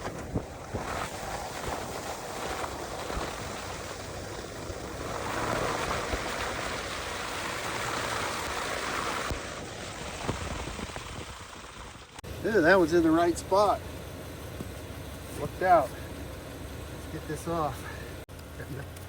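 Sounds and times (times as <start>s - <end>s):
tire and road noise: 0.0s - 19.0s.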